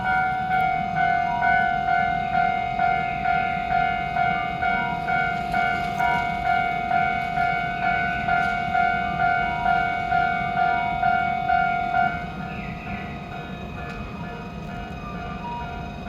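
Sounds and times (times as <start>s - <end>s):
level-crossing warning bell: 0.0s - 16.0s.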